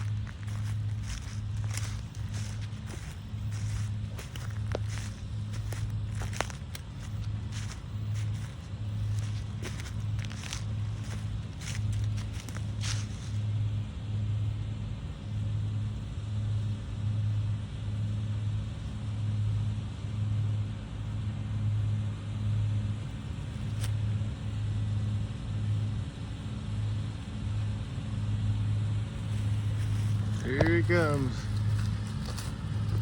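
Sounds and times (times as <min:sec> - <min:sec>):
farm vehicle engine droning: 0:00.0 - 0:33.0.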